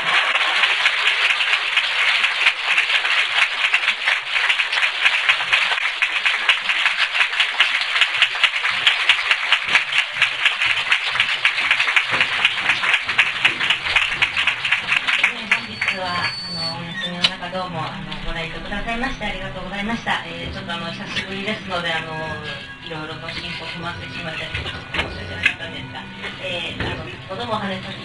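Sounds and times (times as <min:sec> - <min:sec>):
audience applauding: 0:00.0 - 0:17.1, 0:17.9 - 0:26.4.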